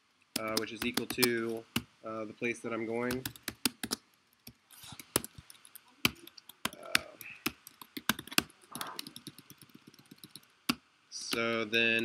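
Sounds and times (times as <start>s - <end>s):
typing on computer keyboard: 0.4s - 1.9s, 3.1s - 11.5s.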